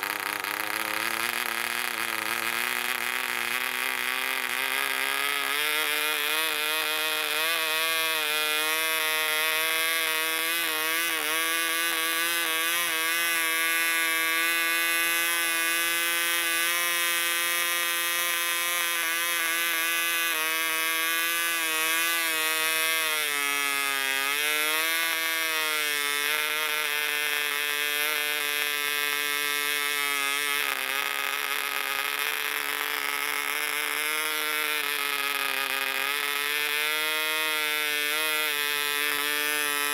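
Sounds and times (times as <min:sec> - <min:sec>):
model engine buzzing: 0:00.0 - 0:39.9.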